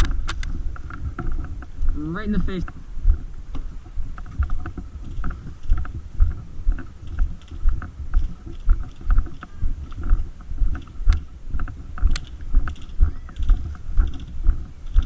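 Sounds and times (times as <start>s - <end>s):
sharp clicks: 0.0s - 2.8s, 3.5s - 15.0s
footsteps with rattling gear: 0.0s - 15.0s.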